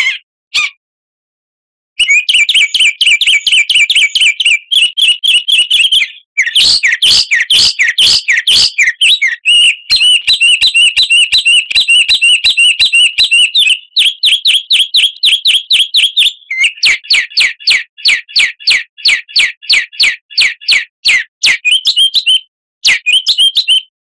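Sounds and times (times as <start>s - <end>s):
songbird chirping: 2.0s - 23.9s.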